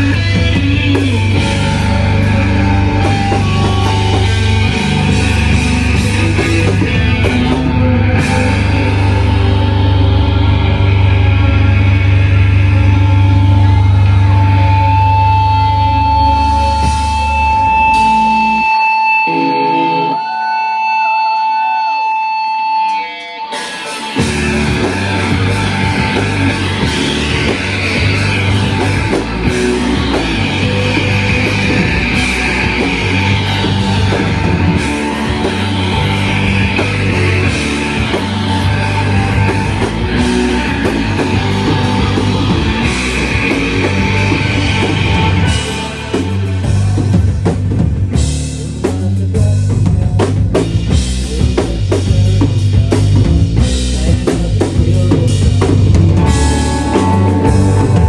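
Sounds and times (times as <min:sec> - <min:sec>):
shoegaze rock band playing: 0:00.0 - 0:58.0.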